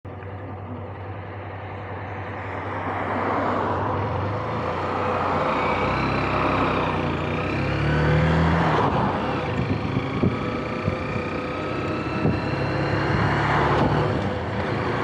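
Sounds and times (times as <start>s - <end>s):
motorcycle engine: 0.1s - 15.0s
road and air noise: 0.1s - 15.0s.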